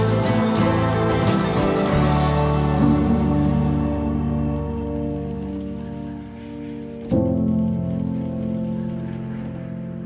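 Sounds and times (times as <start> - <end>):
sustained music chords: 0.0 - 10.0.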